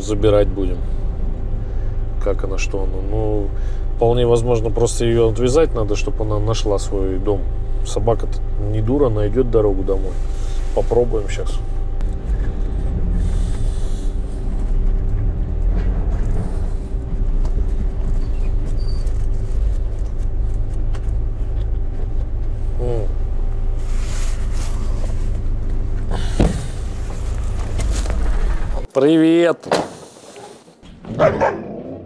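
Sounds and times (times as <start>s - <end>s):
van engine and road noise: 0.0s - 28.9s.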